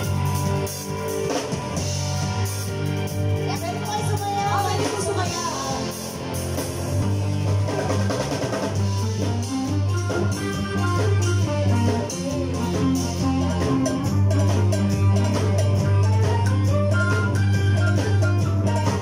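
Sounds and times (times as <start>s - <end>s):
drum kit: 0.0s - 19.0s
electric bass guitar: 0.0s - 19.0s
electric guitar: 0.0s - 19.0s.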